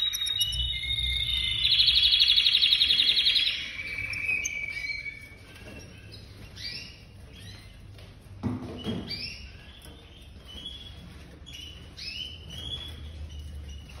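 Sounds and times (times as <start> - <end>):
canaries chirping: 0.0 - 14.0.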